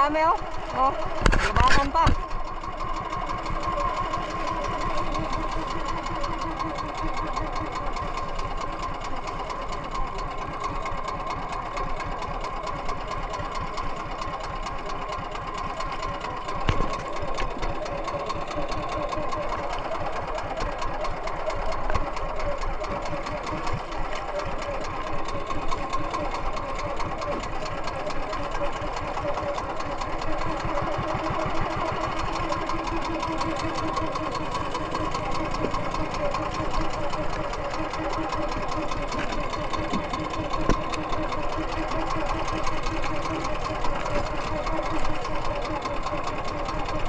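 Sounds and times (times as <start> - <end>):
boat engine running steadily: 0.0 - 47.0.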